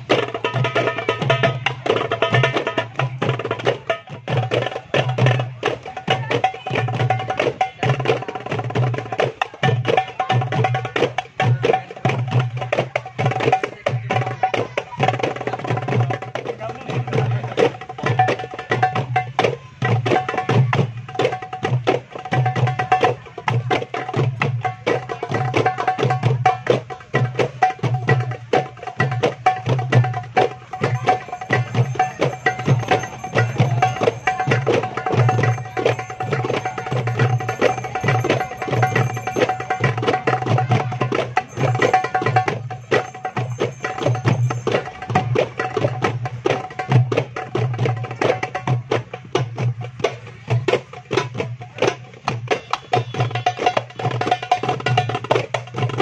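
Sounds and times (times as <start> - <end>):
goblet drums playing: 0.0 - 56.0.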